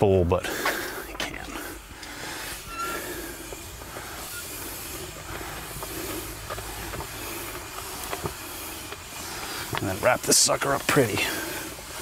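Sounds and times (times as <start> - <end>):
rubber hose rubbing hiss: 0.5 - 12.0.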